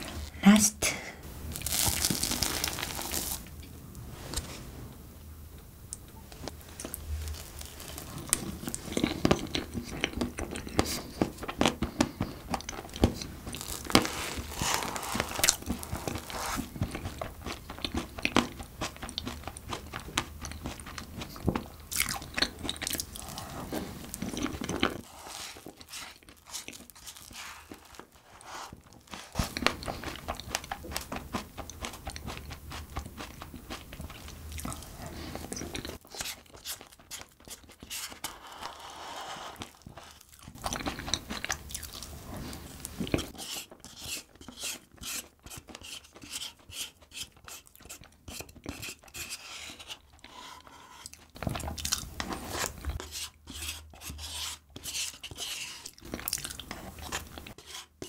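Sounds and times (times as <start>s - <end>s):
chewing soft cake: 5.9s - 58.0s.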